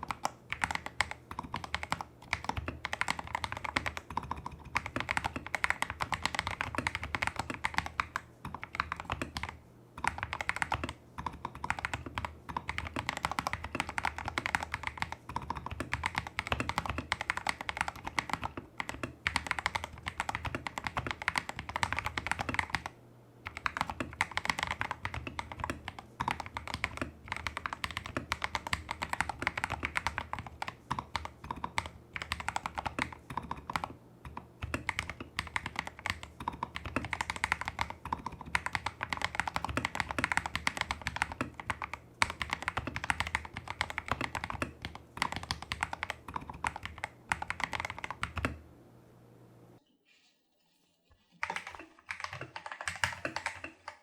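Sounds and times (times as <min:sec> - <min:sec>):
mechanical keyboard typing: 0:00.0 - 0:48.6, 0:51.4 - 0:54.0.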